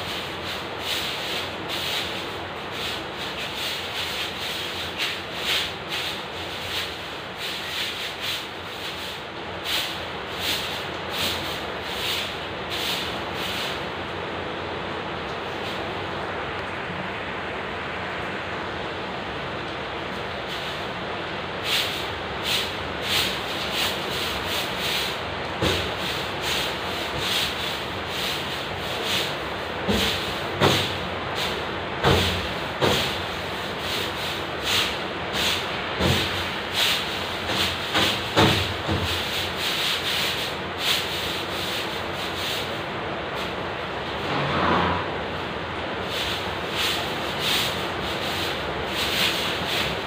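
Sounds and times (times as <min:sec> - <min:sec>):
broom brushing against wall: 0:00.0 - 0:13.9, 0:20.1 - 0:21.0, 0:21.6 - 0:50.0
steady background hiss: 0:00.0 - 0:50.0.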